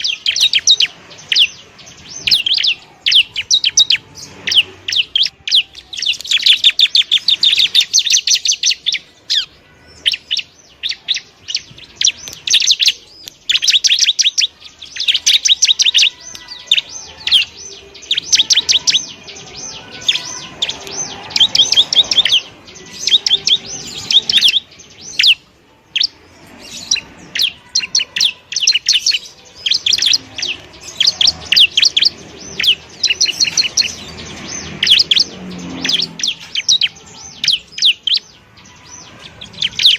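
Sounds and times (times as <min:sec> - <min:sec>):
bird trilling high chirps: 0:00.0 - 0:39.9.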